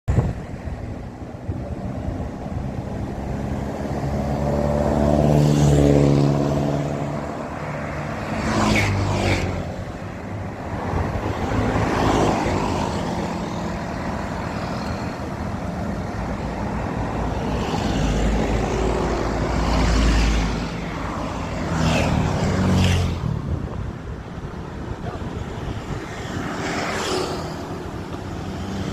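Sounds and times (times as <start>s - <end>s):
heavy vehicle rumble: 0.0s - 28.9s
vehicles passing: 0.0s - 28.9s.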